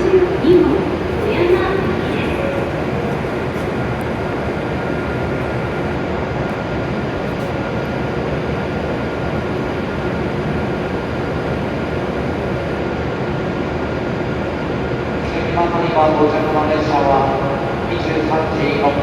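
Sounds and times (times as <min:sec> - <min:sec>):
train equipment humming: 0:00.0 - 0:19.0.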